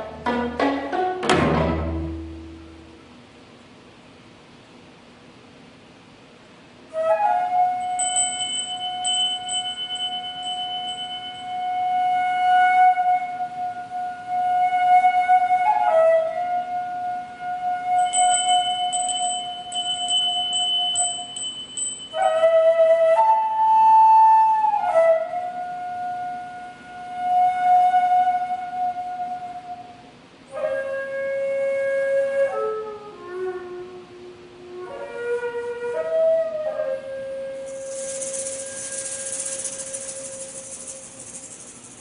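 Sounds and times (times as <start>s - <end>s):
bamboo flute playing long notes: 6.9s - 21.5s, 22.1s - 41.2s.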